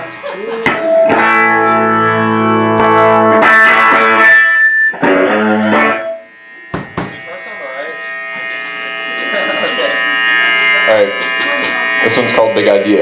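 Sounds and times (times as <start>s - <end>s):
electric guitar chords strummed: 0.0s - 13.0s.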